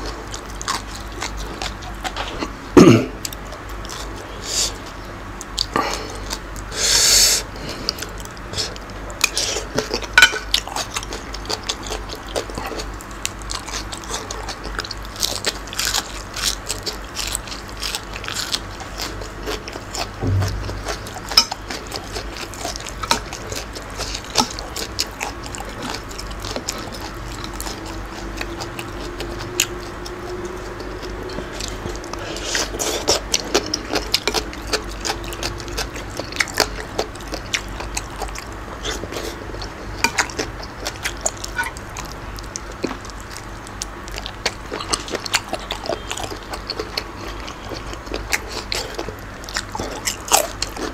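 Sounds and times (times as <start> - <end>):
chewing and crunching: 0.0 - 50.9.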